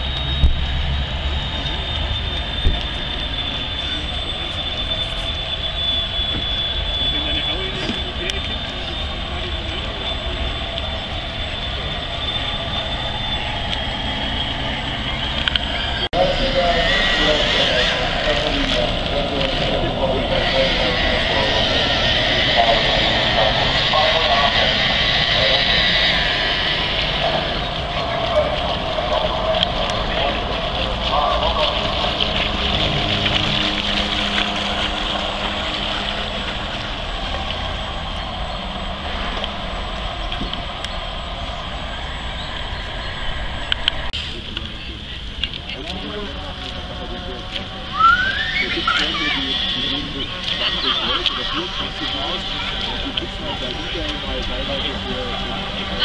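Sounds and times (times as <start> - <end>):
electric motor whine: 0.0 - 44.1, 44.8 - 56.0
low hum: 0.0 - 56.0
low rumble: 0.0 - 56.0.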